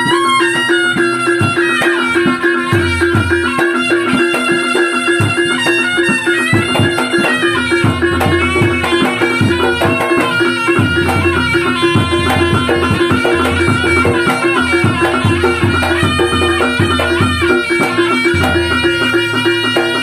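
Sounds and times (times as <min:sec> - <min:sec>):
quick drumming: 0:00.0 - 0:20.0
reedy wind instrument melody: 0:00.0 - 0:20.0.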